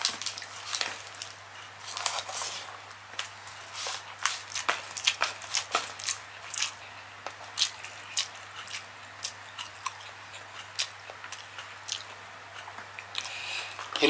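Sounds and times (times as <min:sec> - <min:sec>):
close-miked chewing and crunching: 0:00.0 - 0:14.0.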